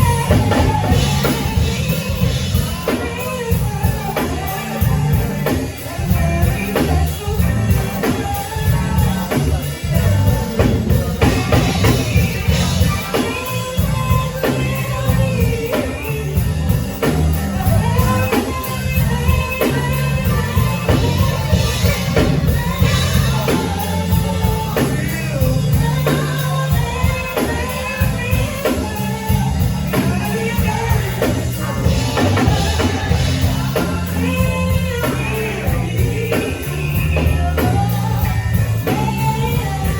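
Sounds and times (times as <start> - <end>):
drum kit beat: 0.0 - 39.9
heavy bass line: 0.0 - 39.9
person singing: 0.0 - 39.9.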